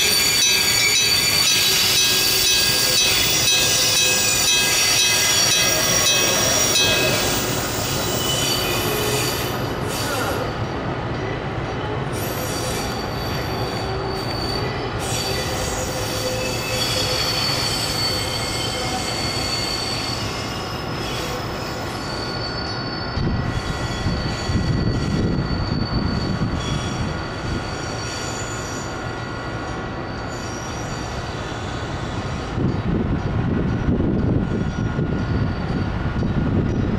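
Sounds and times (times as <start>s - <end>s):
train wheels squealing: 0.0s - 36.9s.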